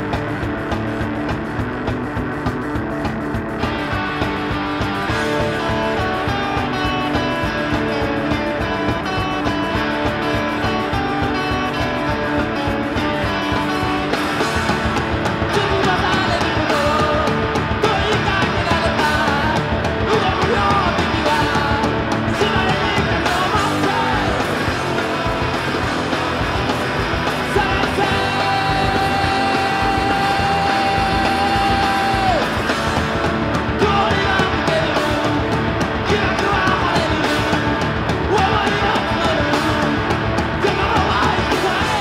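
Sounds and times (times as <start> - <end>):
punk rock band with electric guitars: 0.0 - 42.0.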